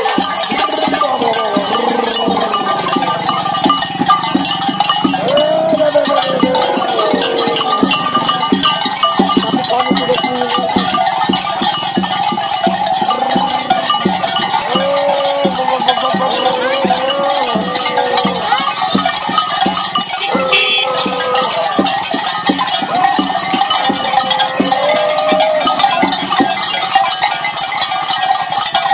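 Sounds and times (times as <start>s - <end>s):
cowbells jangling: 0.0s - 28.9s.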